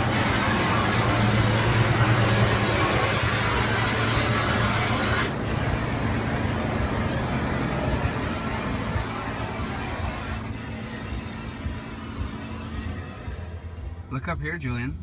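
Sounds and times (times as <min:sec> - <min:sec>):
water jets spraying on car: 0:00.0 - 0:14.3
low machinery hum: 0:00.0 - 0:15.0.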